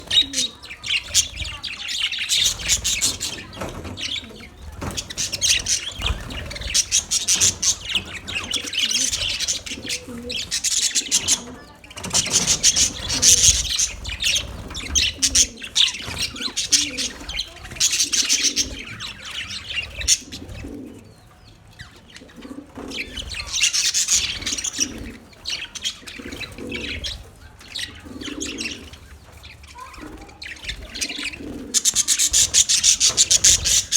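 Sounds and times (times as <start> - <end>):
budgerigars chirping and warbling: 0.0 - 33.9.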